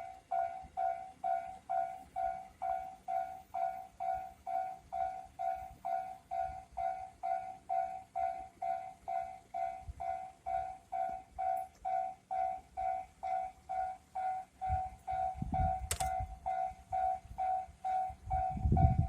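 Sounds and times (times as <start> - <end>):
level crossing warning bell ringing: 0.0 - 19.0
train rumbling: 0.0 - 19.0.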